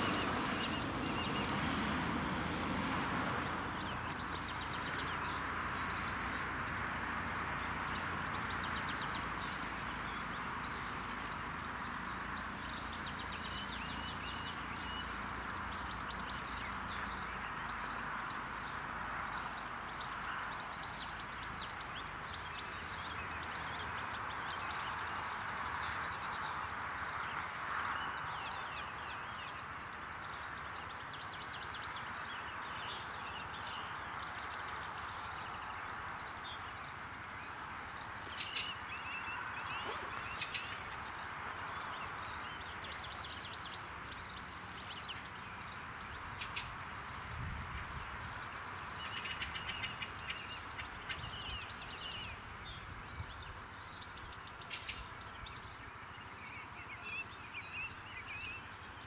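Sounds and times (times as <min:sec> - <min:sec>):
outdoor background hiss: 0:00.0 - 0:59.0
small birds chirping: 0:00.0 - 0:59.0.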